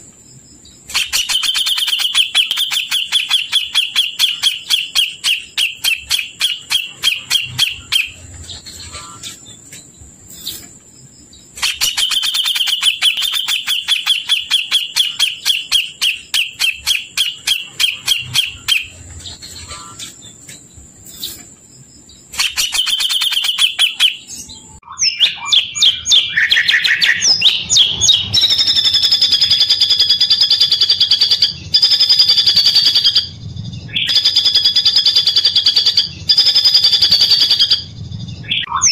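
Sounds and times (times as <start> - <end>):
recorded songbird chirps and trill: 0.0 - 38.9.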